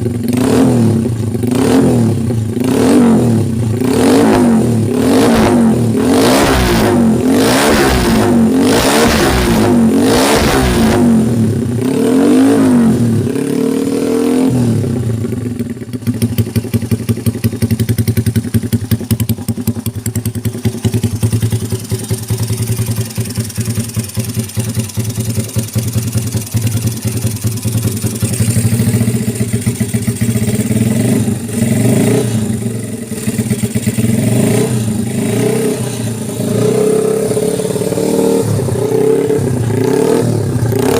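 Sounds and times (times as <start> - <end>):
motorcycle engine idling: 0.0 - 40.9
motorcycle engine revving: 0.0 - 40.9.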